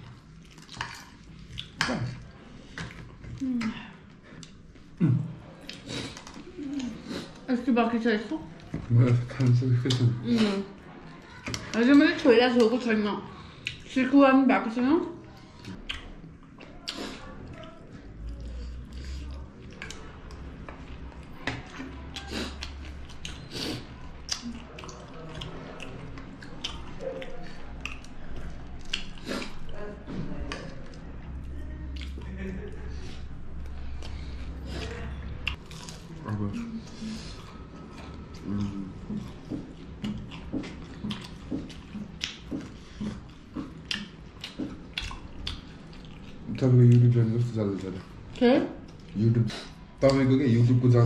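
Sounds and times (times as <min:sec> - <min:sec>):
chewing and mouth sounds: 0:00.0 - 0:14.0, 0:15.0 - 0:50.8.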